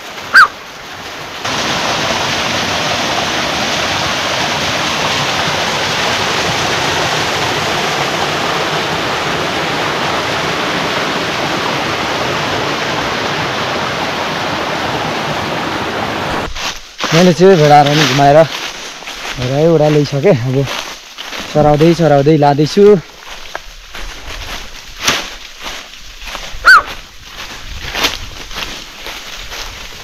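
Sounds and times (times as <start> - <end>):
water rushing: 0.0 - 24.6.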